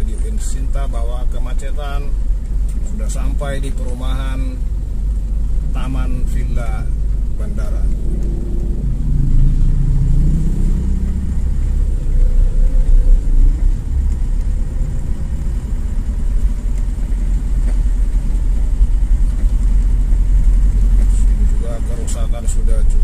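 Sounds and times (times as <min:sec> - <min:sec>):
car engine and tyres rumbling: 0:00.0 - 0:23.0
diesel truck engine passing: 0:00.0 - 0:23.0.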